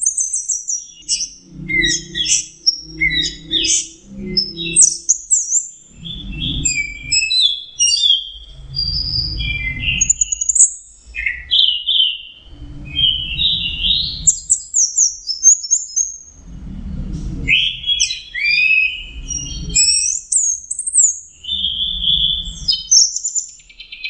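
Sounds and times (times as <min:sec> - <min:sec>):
low rumble: 0:00.8 - 0:11.6, 0:12.3 - 0:20.6, 0:21.2 - 0:22.8.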